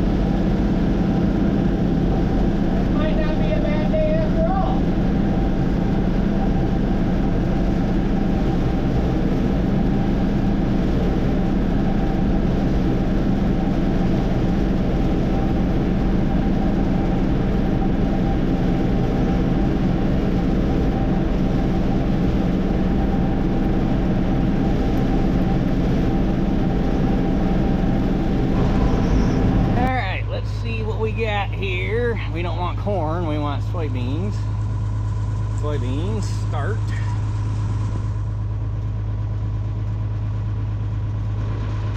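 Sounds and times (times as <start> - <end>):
combine harvester droning: 0.0 - 41.9.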